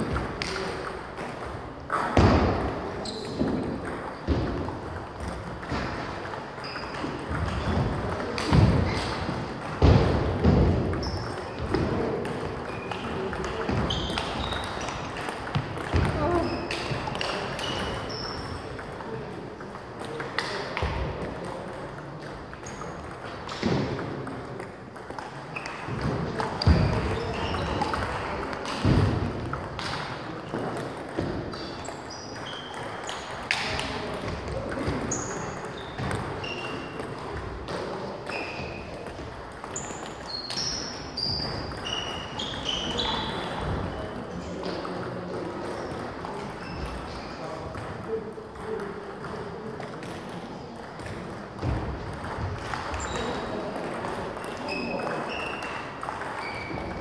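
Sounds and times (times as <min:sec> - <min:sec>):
table tennis balls clicking: 0:00.0 - 0:57.0.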